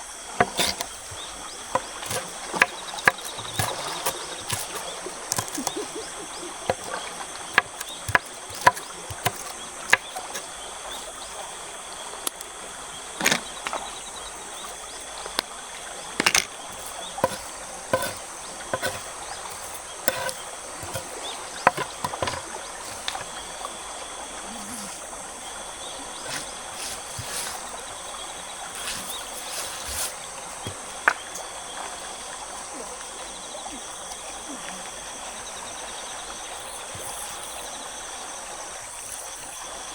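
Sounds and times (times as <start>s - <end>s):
forest stream rushing: 0.0s - 39.9s
insects trilling: 0.0s - 39.9s.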